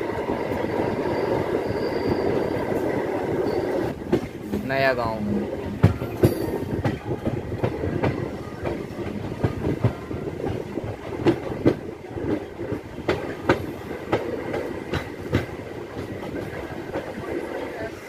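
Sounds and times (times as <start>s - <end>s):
train rumbling on track: 0.0s - 18.0s
train wheels clacking over rail joints: 1.6s - 4.8s, 5.5s - 17.8s.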